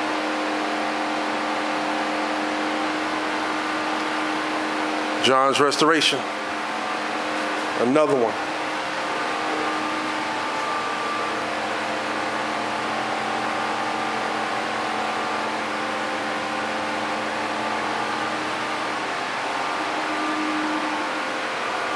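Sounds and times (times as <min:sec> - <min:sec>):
fans whirring hum: 0:00.0 - 0:21.9.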